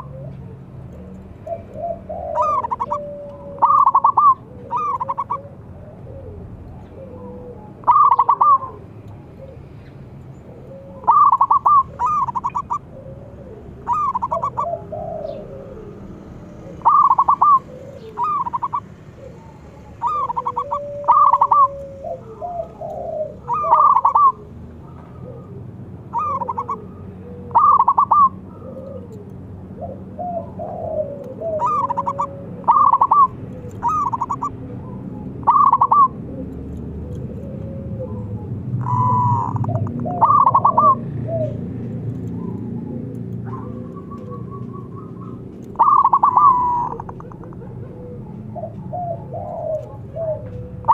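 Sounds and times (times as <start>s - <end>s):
dove cooing: 0.0s - 50.9s
lower bird calls: 0.0s - 50.9s.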